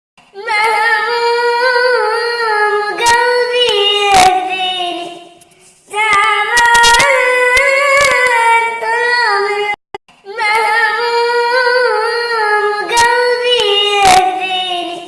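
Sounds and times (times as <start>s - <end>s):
person singing unaccompanied: 0.3s - 15.0s.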